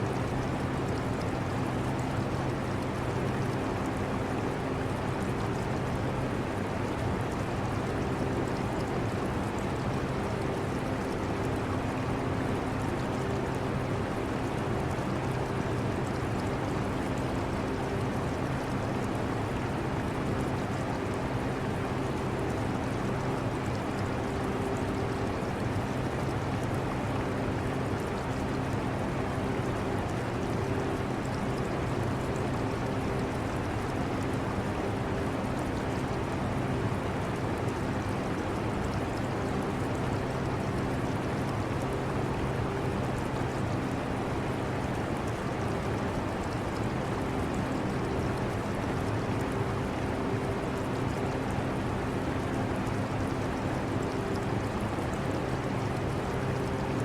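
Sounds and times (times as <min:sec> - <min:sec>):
air conditioner fan hum: 0:00.0 - 0:57.0
aquarium water trickling: 0:00.0 - 0:57.0
low humming tones: 0:00.0 - 0:57.0.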